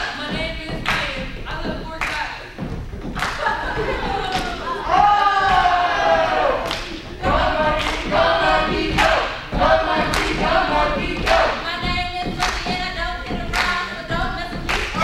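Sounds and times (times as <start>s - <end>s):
young voices singing together: 0.0s - 15.0s.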